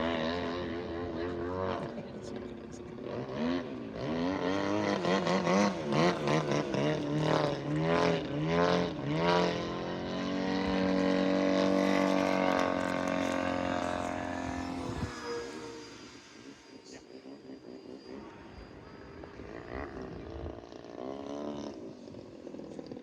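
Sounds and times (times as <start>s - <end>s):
model airplane propeller drone: 0.0s - 23.0s.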